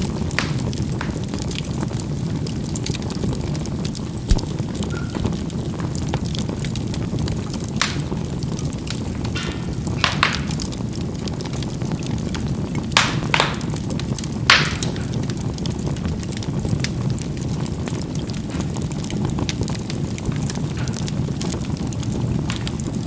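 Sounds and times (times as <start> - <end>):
fire rushing: 0.0 - 4.9, 5.5 - 23.0
burning charcoal popping: 0.0 - 23.0.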